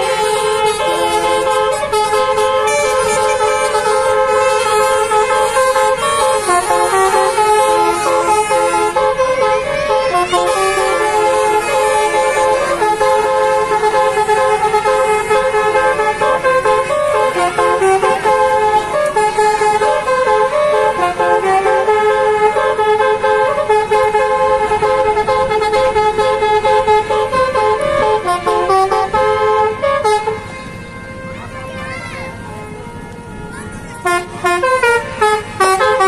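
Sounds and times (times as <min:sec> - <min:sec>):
musical bus horn playing tune: 0:00.0 - 0:36.0.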